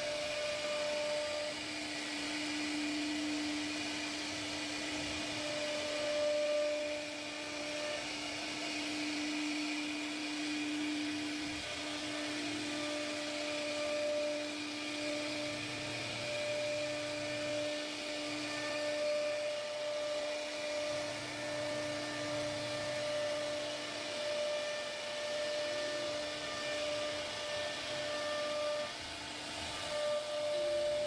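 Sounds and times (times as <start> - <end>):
hiss of wood cutting: 0.0 - 31.0
router spindle whining: 0.0 - 31.0.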